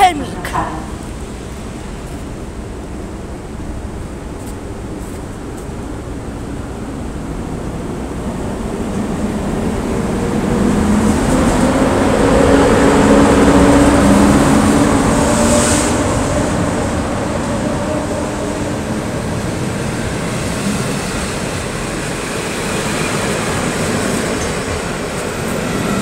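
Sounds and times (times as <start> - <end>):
coaches rolling on rails: 0.0 - 26.0
electric locomotive humming: 0.0 - 26.0.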